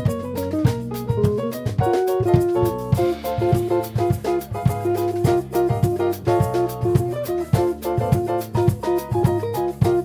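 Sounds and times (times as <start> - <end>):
bass line: 0.0 - 10.0
drum kit: 0.0 - 10.0
electric guitar: 0.0 - 10.0
hand percussion: 0.0 - 10.0
keyboard: 0.0 - 10.0.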